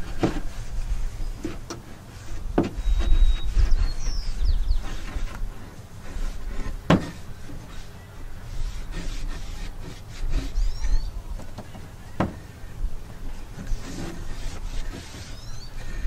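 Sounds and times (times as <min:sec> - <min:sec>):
rag rubbing on wood: 0:00.0 - 0:11.1, 0:13.4 - 0:16.0.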